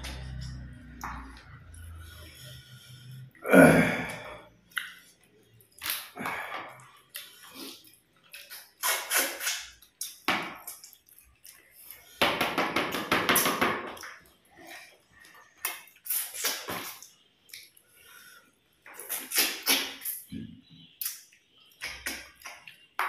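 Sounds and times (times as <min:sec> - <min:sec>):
people chewing and smacking: 0:00.0 - 0:03.4, 0:04.0 - 0:12.4, 0:13.0 - 0:23.0.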